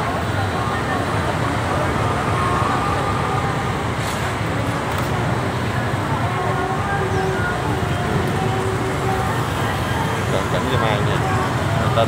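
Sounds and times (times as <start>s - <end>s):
faint voices: 0.0s - 12.0s
motorbikes and cars passing: 0.0s - 12.0s.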